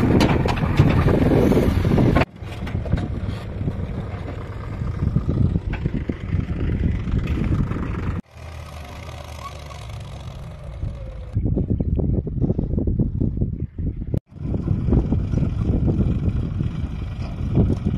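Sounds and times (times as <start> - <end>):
diesel engine rumbling: 0.0 - 17.9.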